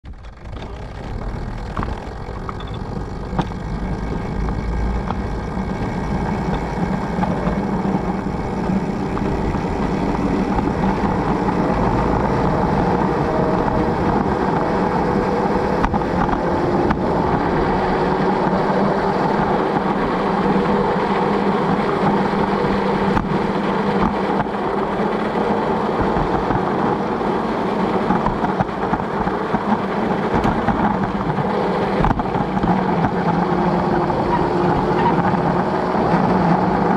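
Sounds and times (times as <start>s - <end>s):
small train mechanical drone: 0.0s - 36.9s
wheels on rails: 0.0s - 36.9s.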